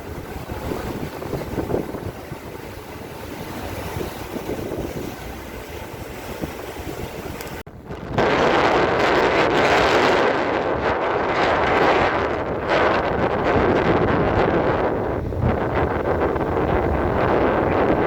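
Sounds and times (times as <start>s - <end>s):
wind blowing over microphone: 0.0s - 18.0s.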